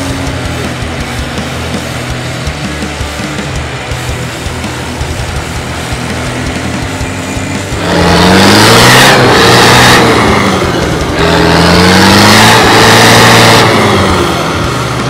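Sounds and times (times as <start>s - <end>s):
engine revving hard: 0.0s - 15.0s.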